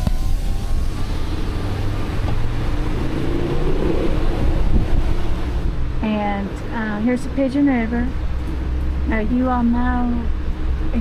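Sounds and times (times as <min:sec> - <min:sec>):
tyres and engine rumbling: 0:00.0 - 0:11.0
wind rushing through open window: 0:00.0 - 0:11.0.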